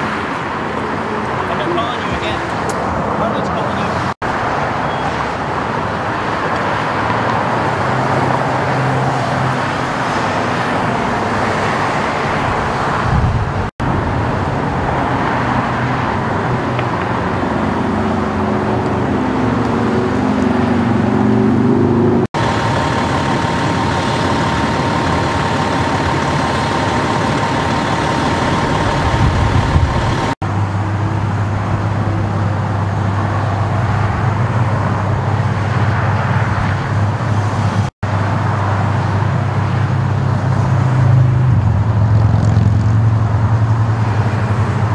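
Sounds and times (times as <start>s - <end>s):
freeway traffic: 0.0s - 44.9s.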